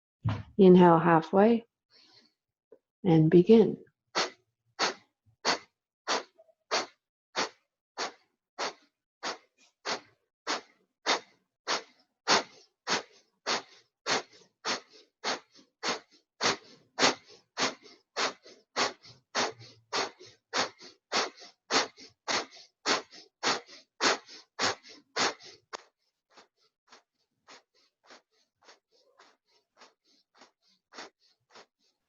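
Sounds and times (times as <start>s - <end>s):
forceful exhalations through nose: 4.2s - 31.9s.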